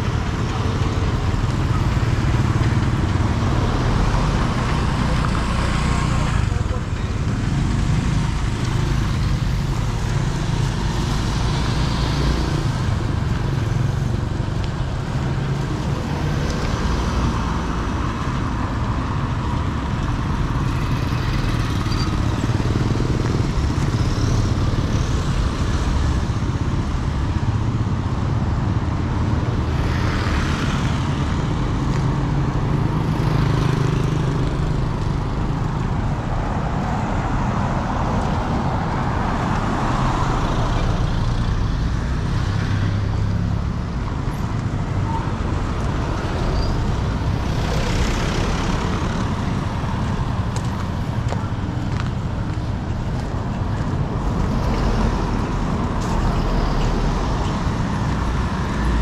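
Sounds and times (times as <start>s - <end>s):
road traffic rumble: 0.0s - 59.0s
vehicles passing: 0.0s - 59.0s.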